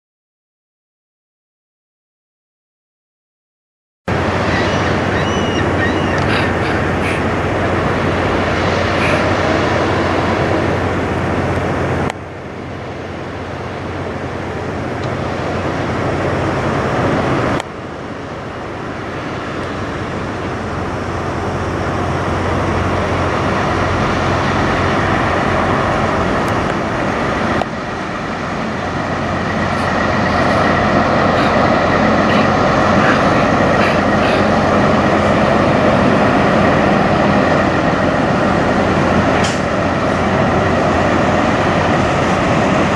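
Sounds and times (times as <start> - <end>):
diesel truck engines running: 4.1 - 42.9
road traffic: 4.1 - 42.9.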